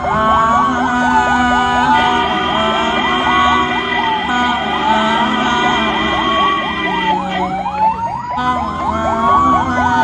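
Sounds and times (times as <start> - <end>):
ambulance siren wailing: 0.0 - 10.0.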